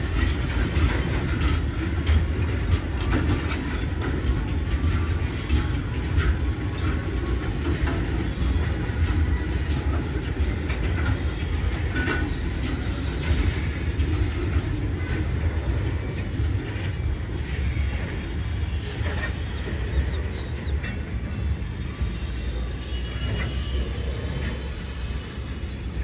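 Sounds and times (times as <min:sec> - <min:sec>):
wheels clicking over rail joints: 0:00.0 - 0:21.6
train wheels rumbling on rails: 0:00.0 - 0:26.0.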